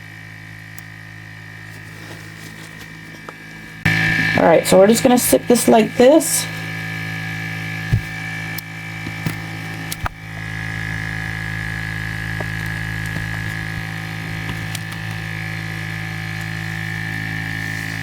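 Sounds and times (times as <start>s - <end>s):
vacuum pump humming and whining: 0.0s - 18.0s.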